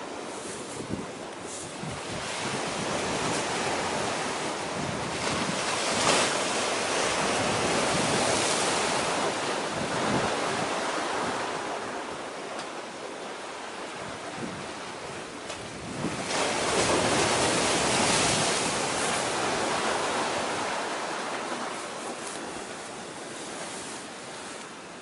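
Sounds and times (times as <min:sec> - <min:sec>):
sea waves: 0:00.0 - 0:25.0
wind: 0:00.0 - 0:25.0.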